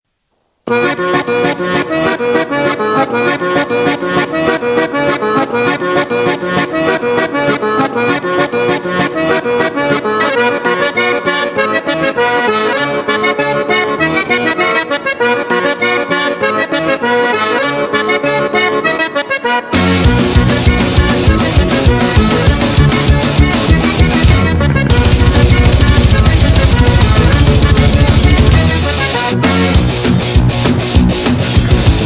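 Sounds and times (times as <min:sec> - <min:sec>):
lively music with fast beat: 0:00.7 - 0:32.0.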